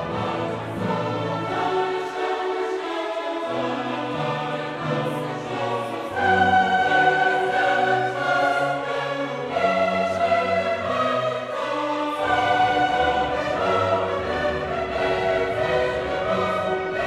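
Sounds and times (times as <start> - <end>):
orchestral and choral music: 0.0 - 17.0.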